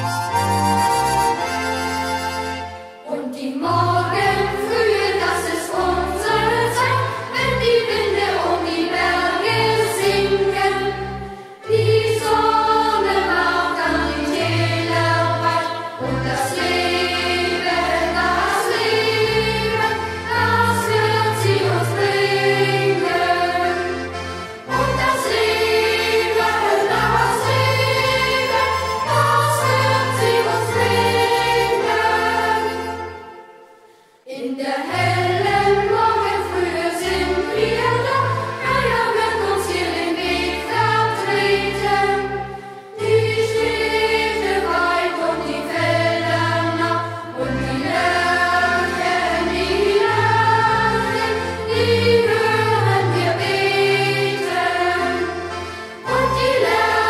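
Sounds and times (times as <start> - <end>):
youth choir singing: 3.0 - 33.2, 34.3 - 57.0.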